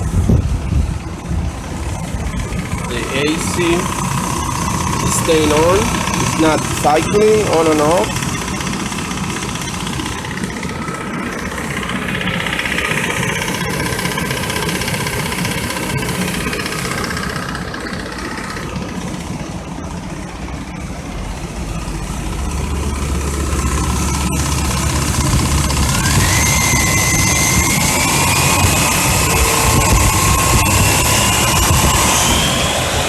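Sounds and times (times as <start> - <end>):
deep low hum: 0.0 - 33.0
pickup engine idling: 0.0 - 33.0.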